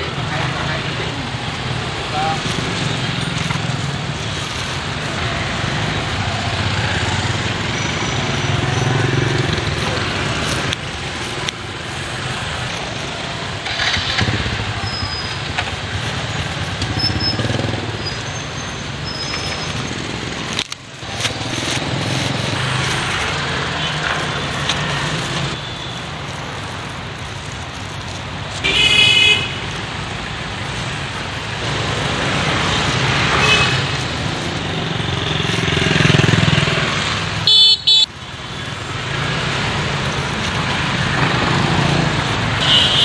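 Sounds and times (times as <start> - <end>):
motorbikes and cars passing: 0.0 - 43.0.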